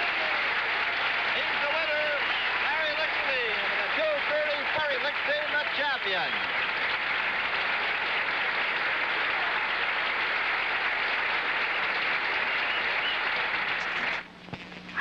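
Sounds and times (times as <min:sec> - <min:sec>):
crowd applauding: 0:00.0 - 0:14.3.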